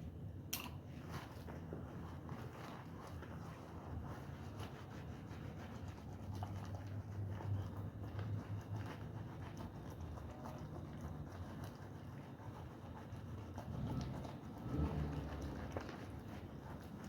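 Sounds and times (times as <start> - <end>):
carpet scrubbed by hand: 1.0 - 17.0.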